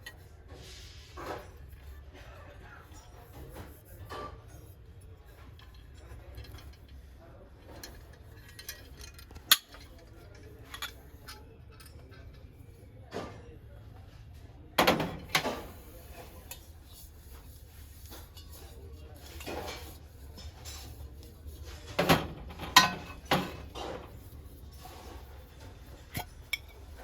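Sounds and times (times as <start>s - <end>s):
brass kitchenware clinking: 2.8s - 12.5s, 14.8s - 27.0s.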